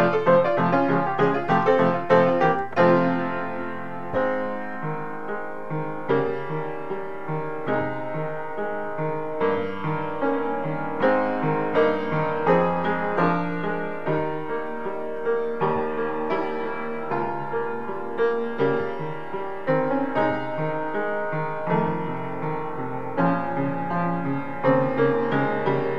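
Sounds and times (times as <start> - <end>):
upright piano playing chords: 0.0 - 25.9.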